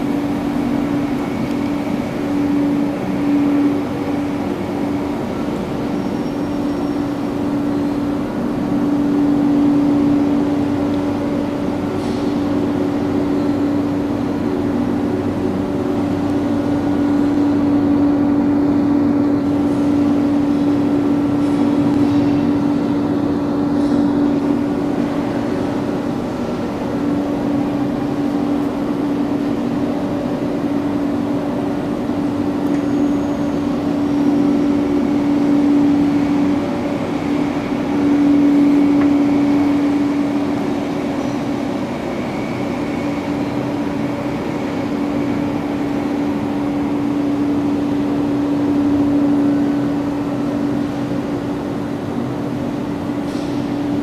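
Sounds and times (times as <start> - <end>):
factory machinery hum: 0.0 - 54.0.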